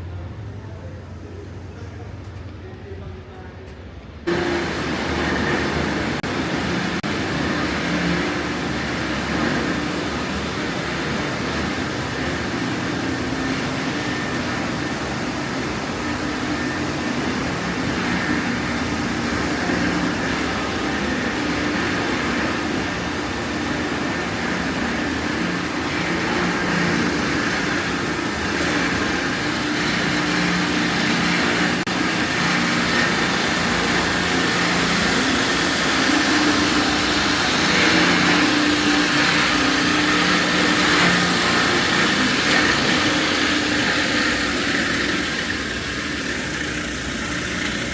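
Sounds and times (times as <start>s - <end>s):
machine humming drone: 4.2s - 47.9s.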